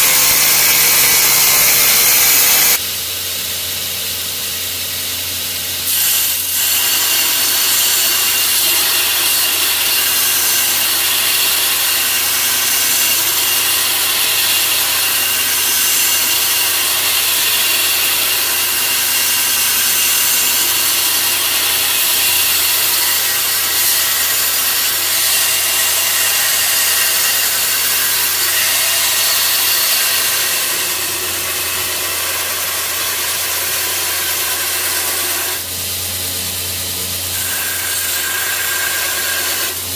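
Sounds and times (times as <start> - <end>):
belt grinder grinding steel: 0.0 - 2.8, 5.9 - 36.0, 36.8 - 39.9.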